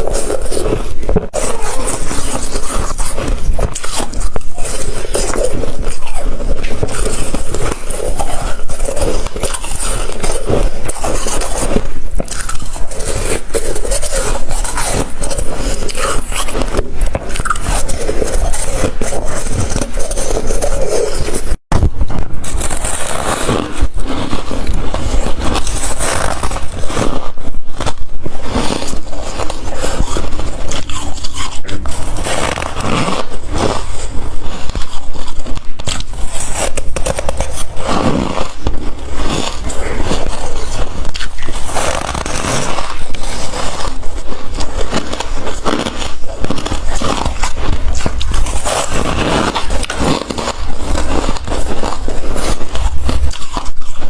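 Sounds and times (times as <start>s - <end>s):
ice crunching while chewed: 0.0s - 54.0s.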